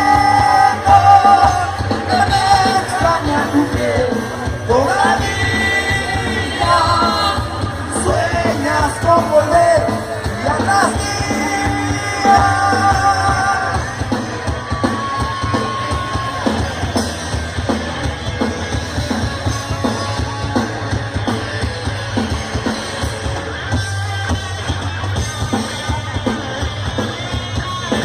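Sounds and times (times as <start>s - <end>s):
live rock band instrumental: 0.0s - 28.0s.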